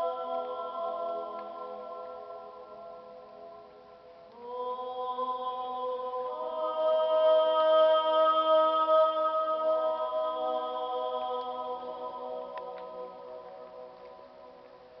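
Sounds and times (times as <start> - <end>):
person singing long notes: 0.0 - 14.3.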